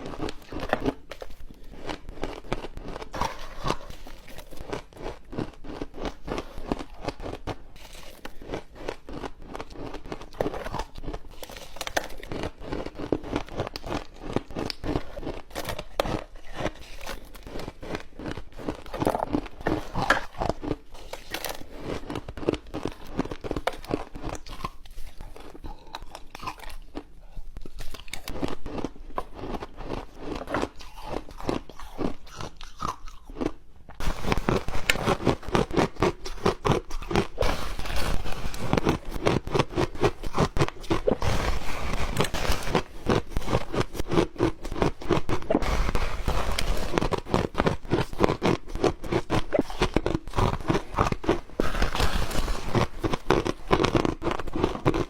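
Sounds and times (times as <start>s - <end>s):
ice crunching between teeth: 0.0s - 55.0s.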